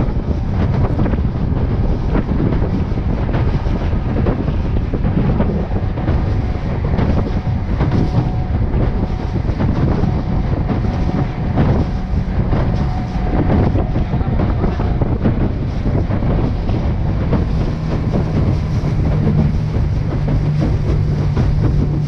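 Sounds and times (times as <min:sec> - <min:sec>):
hull slapping water: 0:00.0 - 0:22.0
outboard motor running: 0:00.0 - 0:22.0
wind buffeting microphone: 0:00.0 - 0:22.0.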